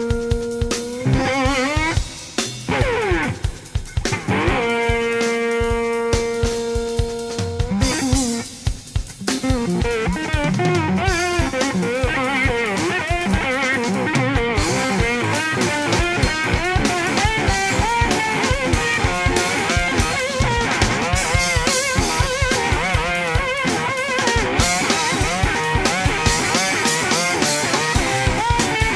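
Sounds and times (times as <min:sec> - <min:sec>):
drum kit: 0:00.0 - 0:28.9
electric slide guitar lead: 0:00.0 - 0:28.9.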